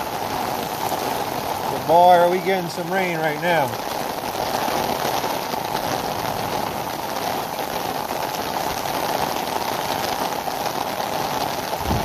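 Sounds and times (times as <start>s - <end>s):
heavy rain downpour: 0.0s - 12.0s.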